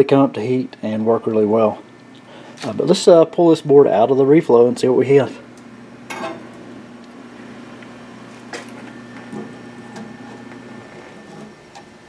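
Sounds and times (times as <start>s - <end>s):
oven electrical hum: 0.0s - 12.0s.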